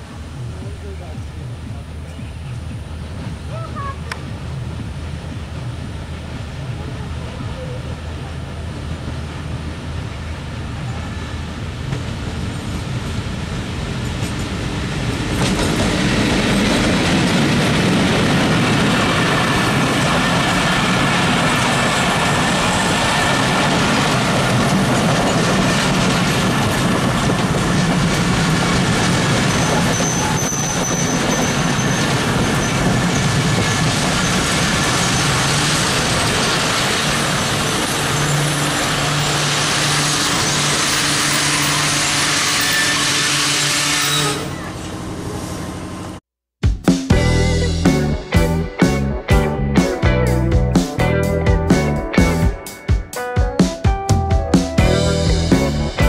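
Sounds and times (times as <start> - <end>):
diesel locomotive engine: 0.0 - 46.2, 47.1 - 52.6, 54.8 - 56.0
train coaches rolling on rails: 0.0 - 46.2.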